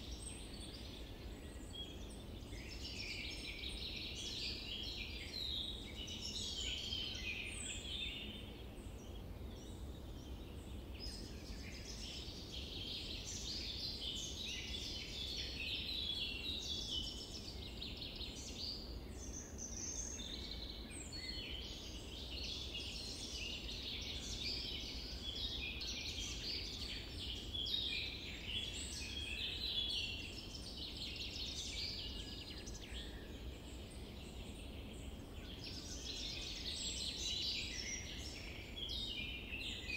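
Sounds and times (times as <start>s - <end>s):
low steady background noise: 0.0s - 39.9s
small birds chirping: 0.0s - 39.9s.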